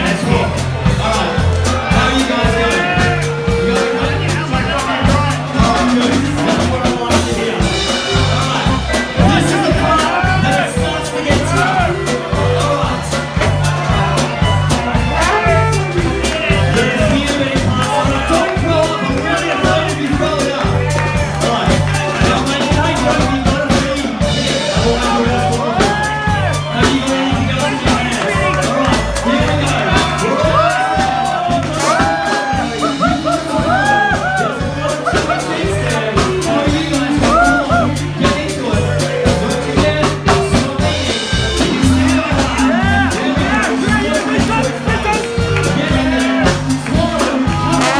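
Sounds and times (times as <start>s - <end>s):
bouncing bass line: 0.0s - 47.9s
live band music: 0.0s - 47.9s
voices: 0.0s - 47.9s.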